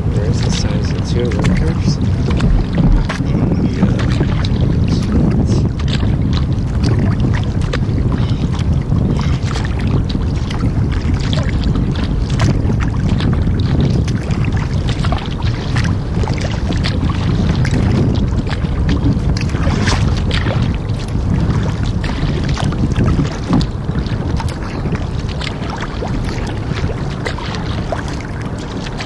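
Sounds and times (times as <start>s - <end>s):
paddle splashing and dripping: 0.0s - 29.0s
wind rumble on microphone: 0.0s - 29.0s.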